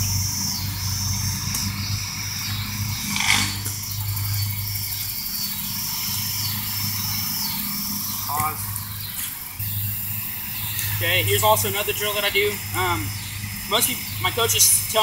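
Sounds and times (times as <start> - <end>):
insects trilling: 0.0 - 15.0
low machine hum: 0.0 - 15.0.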